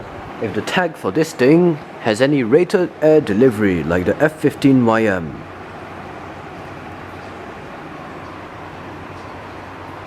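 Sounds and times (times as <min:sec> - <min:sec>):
ceiling fan air rush: 0:00.0 - 0:10.0
low motor hum: 0:01.8 - 0:10.0.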